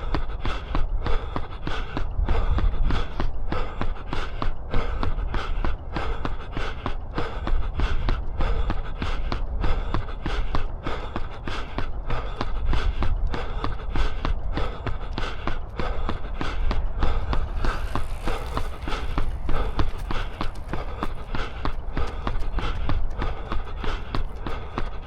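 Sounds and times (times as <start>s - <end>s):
running footsteps: 0.0s - 25.0s
low rumble: 0.7s - 25.0s.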